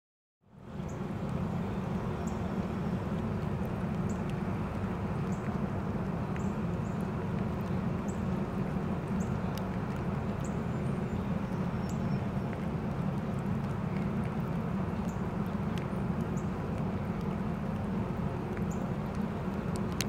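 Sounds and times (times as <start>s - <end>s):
outdoor background rumble: 0.4s - 20.0s.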